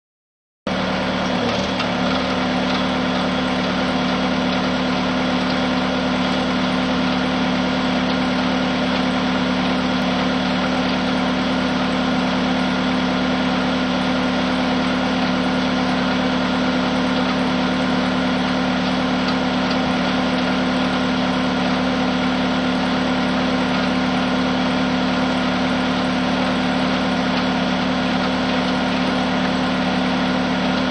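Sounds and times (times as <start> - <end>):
machine engine droning: 0.7 - 30.9.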